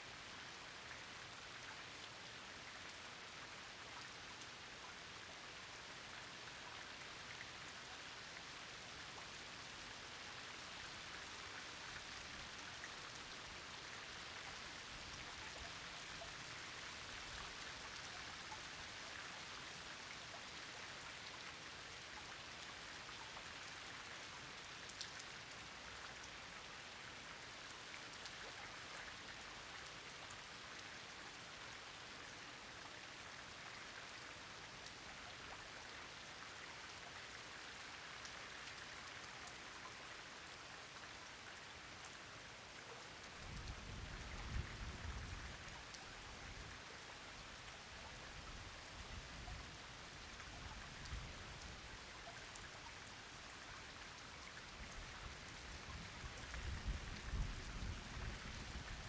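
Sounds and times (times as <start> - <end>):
rain falling: 0.1 - 59.0.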